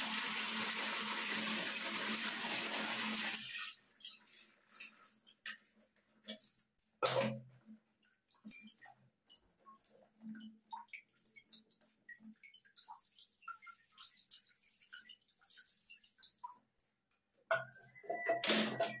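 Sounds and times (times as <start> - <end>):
water drips: 3.2 - 19.0.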